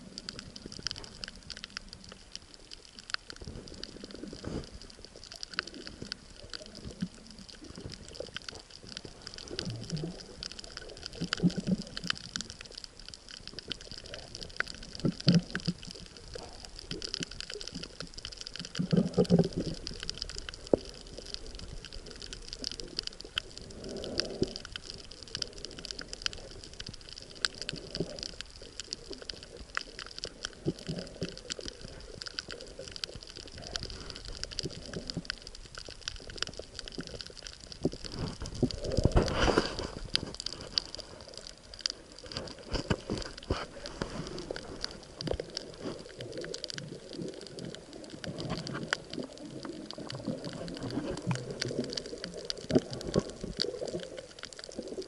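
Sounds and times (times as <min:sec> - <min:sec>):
fine crackle of tiny clicks: 0:00.0 - 0:55.0
underwater gurgling and rushing: 0:00.0 - 0:55.0.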